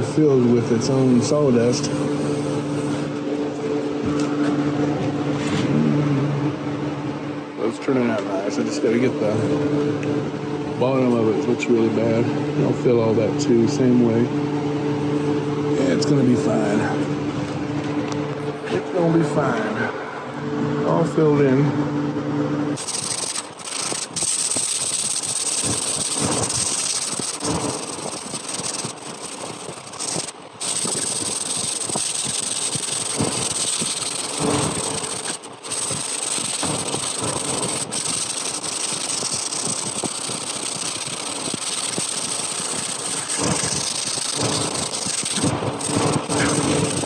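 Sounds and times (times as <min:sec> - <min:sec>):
electric sander on wood: 0:00.0 - 0:19.8, 0:22.8 - 0:47.0.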